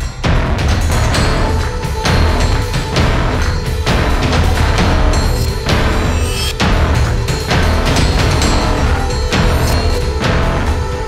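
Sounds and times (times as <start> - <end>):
dramatic music with heavy bass: 0.0 - 11.0
sharp musical hits: 0.0 - 11.0.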